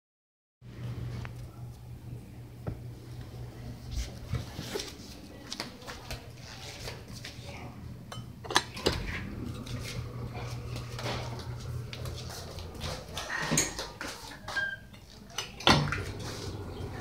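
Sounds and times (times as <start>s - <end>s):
steady low hum: 0.6s - 17.0s.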